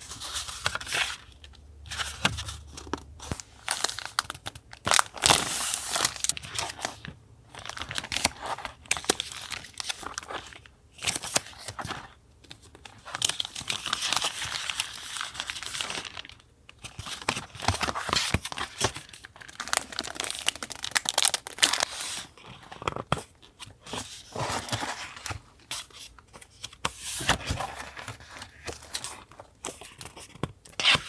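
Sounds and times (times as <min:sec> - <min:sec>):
paper rustling and crinkling: 0:00.0 - 0:31.0.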